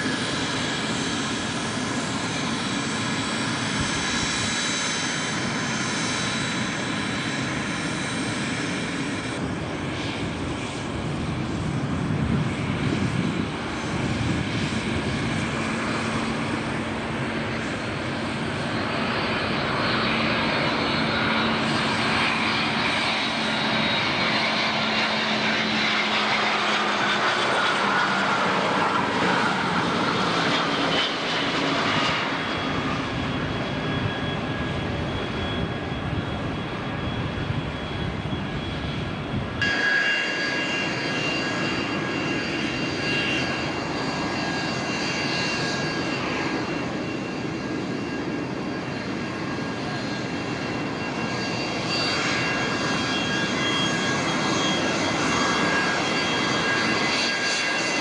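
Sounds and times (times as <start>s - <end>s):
cargo jet on runway: 0.0s - 58.0s
high-pitched jet engine whine: 0.0s - 58.0s
jet engine whine passing: 0.0s - 58.0s.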